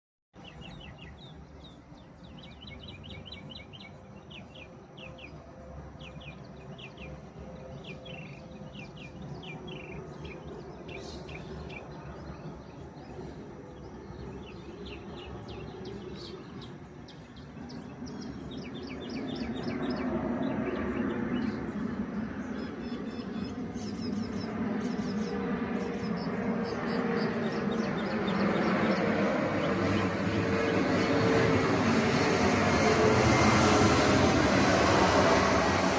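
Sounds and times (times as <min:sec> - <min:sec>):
airplane engine rumble: 0:00.4 - 0:35.9
small birds chirping: 0:00.4 - 0:35.9.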